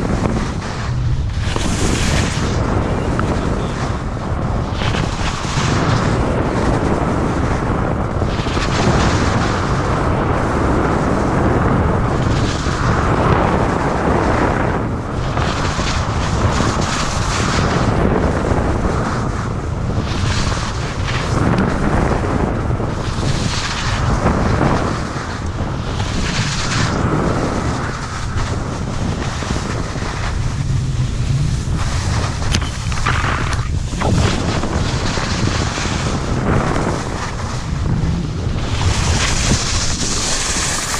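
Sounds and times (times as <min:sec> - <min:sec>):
skis scraping packed snow: 0:00.0 - 0:07.6, 0:08.4 - 0:10.0, 0:15.2 - 0:40.9
wind buffeting microphone: 0:00.0 - 0:40.9.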